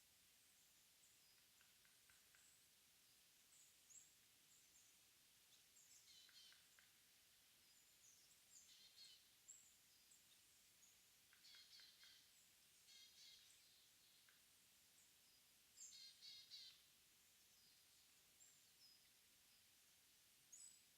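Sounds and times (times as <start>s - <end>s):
quiet hiss: 0.0s - 20.9s
small birds chirping: 0.4s - 20.9s.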